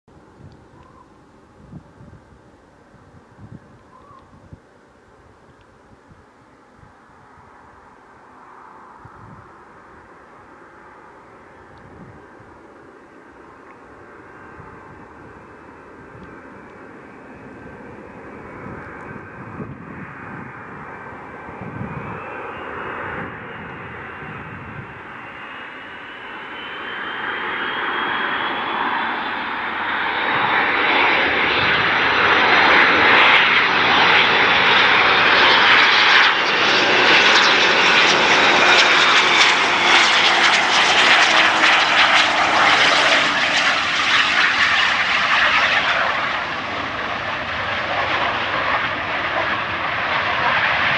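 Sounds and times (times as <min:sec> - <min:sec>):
jet airliner passing low: 0:00.2 - 0:50.9.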